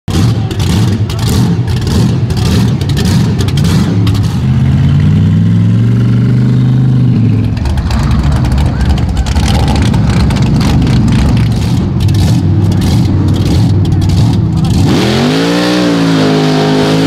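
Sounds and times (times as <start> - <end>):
truck engines revving: 0.1 - 17.0.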